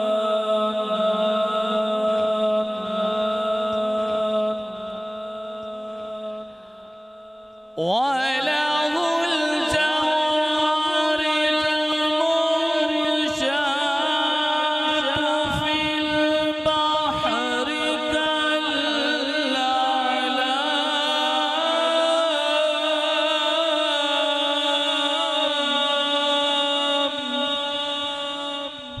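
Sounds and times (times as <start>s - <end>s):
man reciting melodically: 0.0s - 29.0s.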